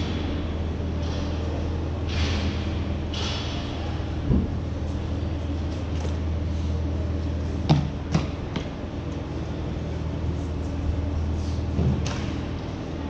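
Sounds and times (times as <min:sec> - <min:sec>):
arena hum: 0:00.0 - 0:13.0.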